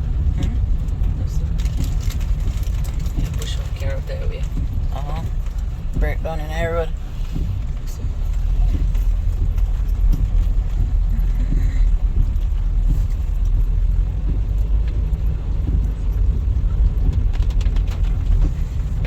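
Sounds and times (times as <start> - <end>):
car driving on wet road: 0.0 - 19.0.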